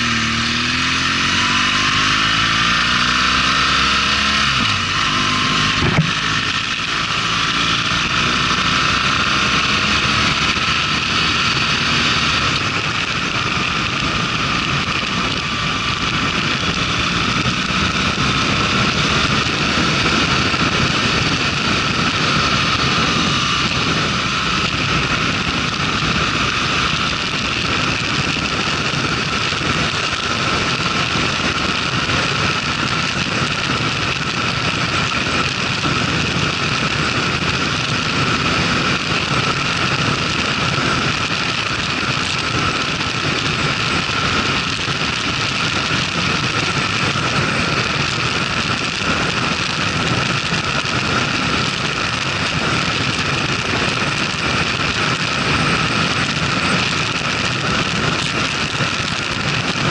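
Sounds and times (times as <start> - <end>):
motorcycle engine and road noise: 0.0 - 59.9.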